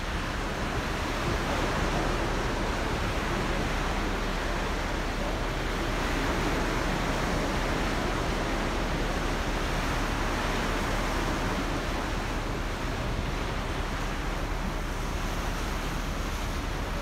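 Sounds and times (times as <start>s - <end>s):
sea water rushing: 0.0s - 17.0s
wind: 0.0s - 17.0s.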